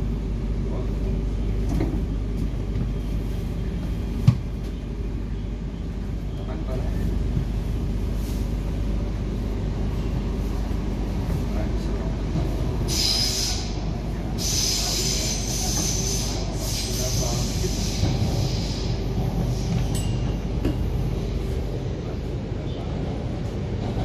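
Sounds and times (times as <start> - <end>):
train wheels rumbling in tunnel: 0.0 - 24.0.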